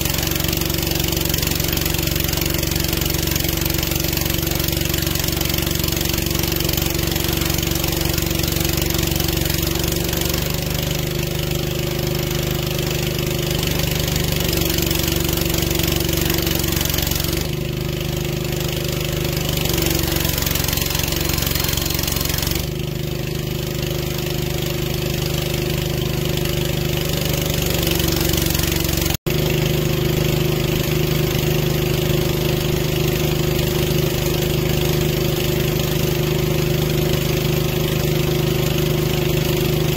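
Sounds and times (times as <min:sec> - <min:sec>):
boom lift engine running: 0:00.0 - 0:39.9.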